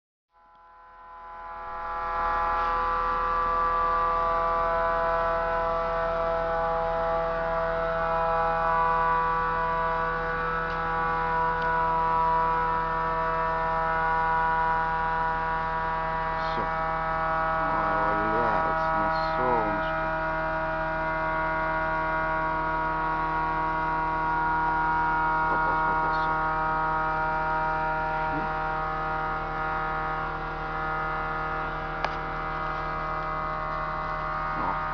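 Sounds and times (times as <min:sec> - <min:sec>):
humming drone: 0:00.3 - 0:34.9.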